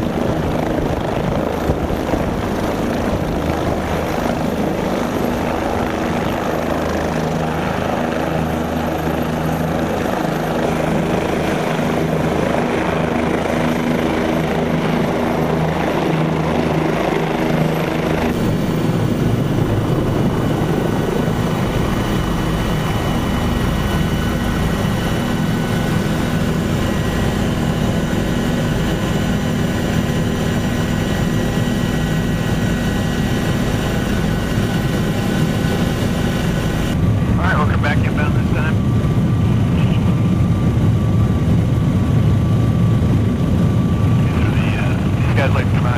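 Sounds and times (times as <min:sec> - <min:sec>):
helicopter turbine and rotor: 0:00.0 - 0:45.9.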